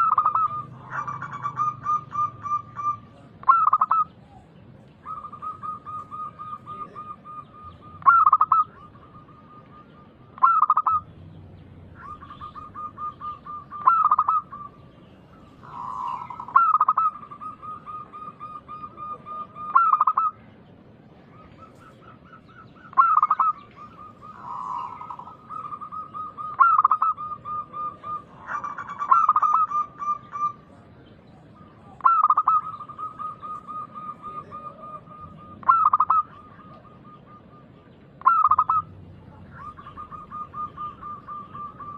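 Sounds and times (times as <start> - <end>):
dove cooing: 0.0 - 11.1, 11.9 - 20.5, 21.2 - 41.9.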